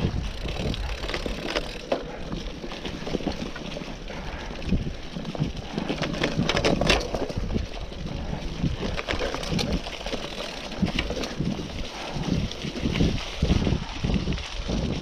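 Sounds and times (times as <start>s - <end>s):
bike tyres crunching leaves: 0.0s - 15.0s.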